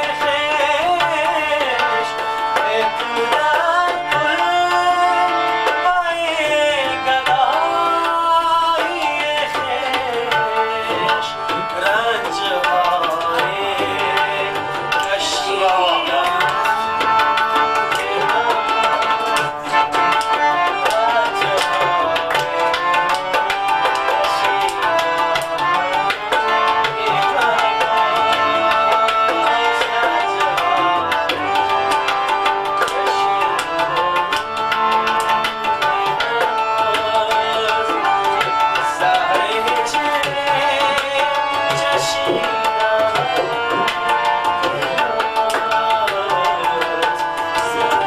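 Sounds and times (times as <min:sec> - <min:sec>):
harmonium reed notes: 0:00.0 - 0:48.0
tabla playing fast rhythm: 0:00.0 - 0:48.0.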